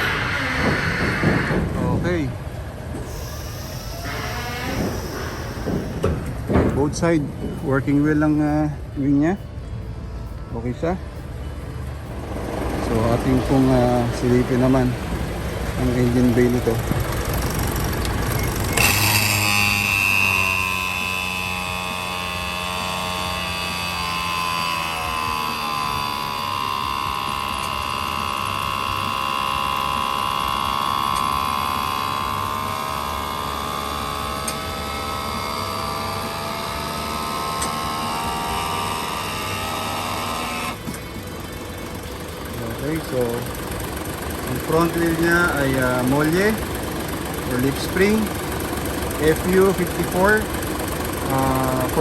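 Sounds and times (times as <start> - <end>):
electric pump motor whine: 0.0 - 9.0, 11.2 - 52.0
low engine hum: 0.0 - 52.0.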